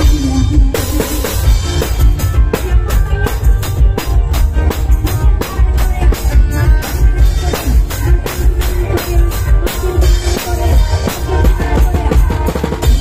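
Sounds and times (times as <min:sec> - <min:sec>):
loud music with bass-drum beat: 0:00.0 - 0:13.0.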